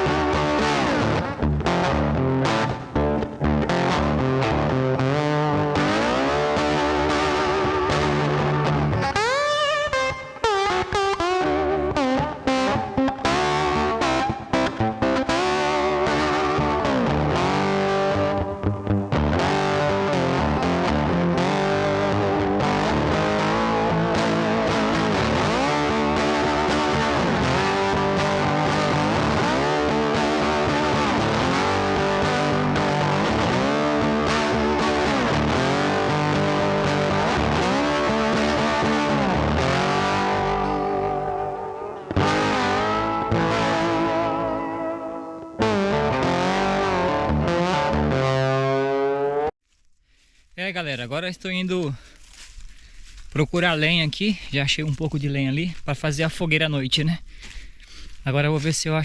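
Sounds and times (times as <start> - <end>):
distorted electric guitar music: 0.0 - 49.6.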